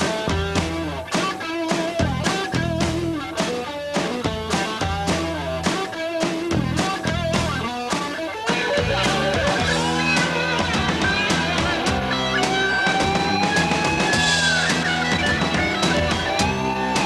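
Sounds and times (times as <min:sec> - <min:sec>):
drum kit steady beat: 0:00.0 - 0:17.0
electric guitar: 0:00.0 - 0:17.0.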